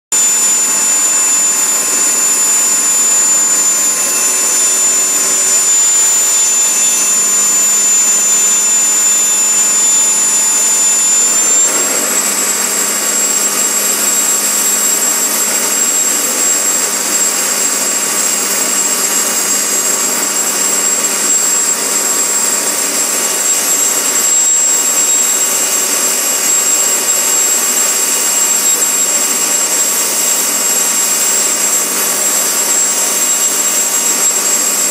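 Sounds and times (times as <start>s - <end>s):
helicopter turbine engine whining: 0.2s - 34.9s.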